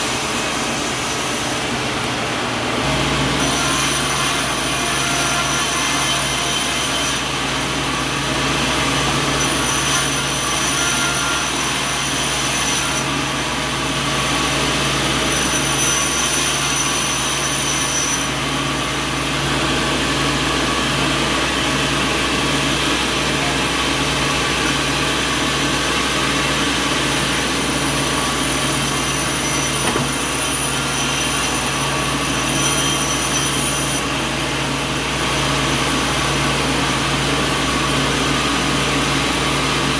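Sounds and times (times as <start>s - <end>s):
sawmill motor drone: 0.0s - 39.9s
high-pitched machine whines: 2.8s - 39.9s.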